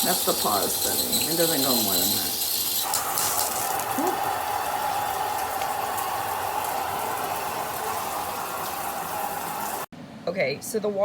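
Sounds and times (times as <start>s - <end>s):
shower head spraying water: 0.0s - 9.9s.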